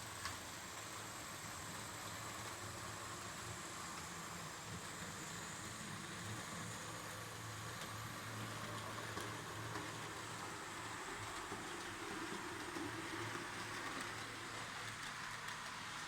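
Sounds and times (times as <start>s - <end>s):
model train hum: 0.0s - 16.0s.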